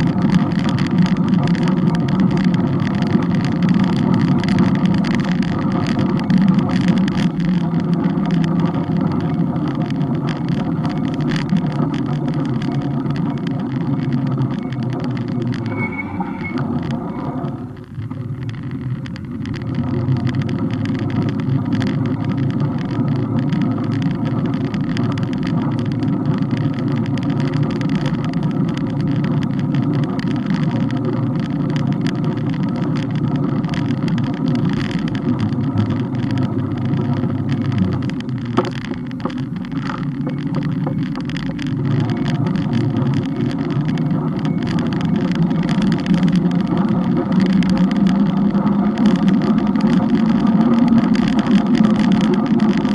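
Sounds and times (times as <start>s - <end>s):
bike riding rumble: 0.0s - 52.9s
constant hum: 0.0s - 52.9s.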